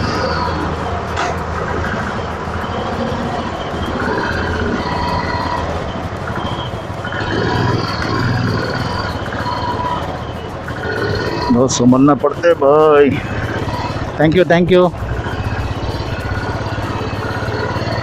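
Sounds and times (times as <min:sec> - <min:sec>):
engines humming: 0:00.0 - 0:18.0
calls and tones: 0:02.6 - 0:18.0.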